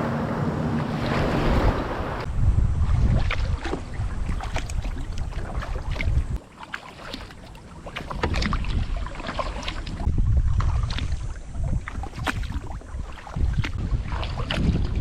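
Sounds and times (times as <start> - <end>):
wind buffeting microphone: 0.0 - 6.4, 7.6 - 15.0
paddle splashing water: 0.0 - 15.0.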